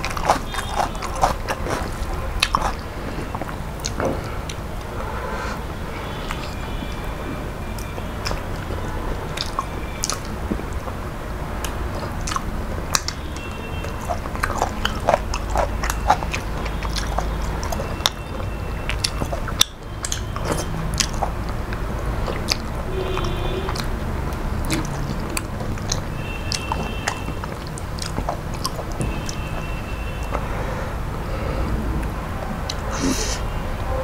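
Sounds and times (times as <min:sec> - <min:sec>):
man chewing food: 0:00.0 - 0:34.0.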